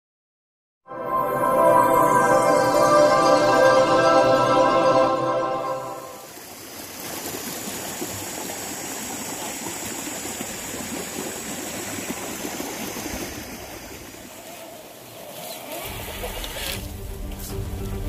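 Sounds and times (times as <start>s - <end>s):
running water: 1.2s - 18.0s.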